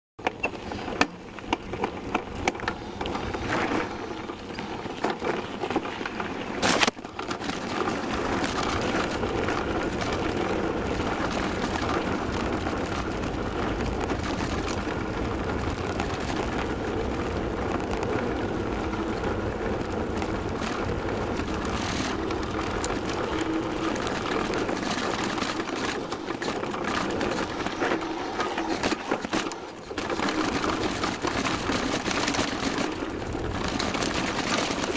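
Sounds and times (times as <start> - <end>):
bike knocks and rattles: 0.2 - 34.9
rushing of tyres and wind: 0.2 - 34.9.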